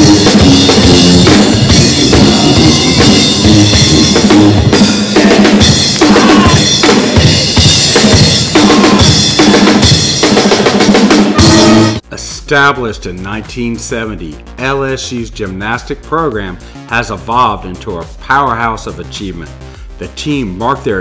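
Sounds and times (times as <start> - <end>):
pep band playing loud music: 0.0 - 20.8
drum kit beat: 0.0 - 21.0.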